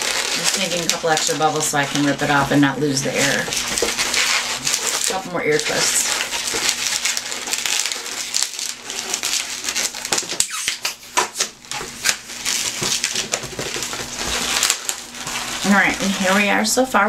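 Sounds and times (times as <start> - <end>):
balloons squeaking and rubbing: 0.0 - 17.0.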